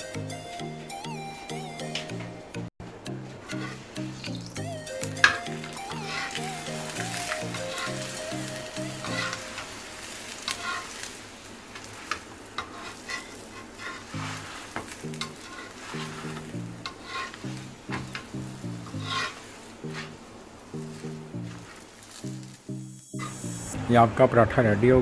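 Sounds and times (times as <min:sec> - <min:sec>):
background music: 0:00.0 - 0:10.9, 0:14.1 - 0:25.0
flatbread sizzling on griddle: 0:03.0 - 0:23.8.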